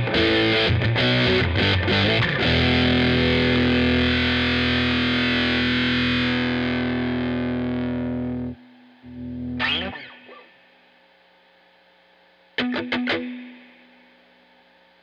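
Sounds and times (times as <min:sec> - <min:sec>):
fuzzed electric guitar: 0:00.0 - 0:15.0.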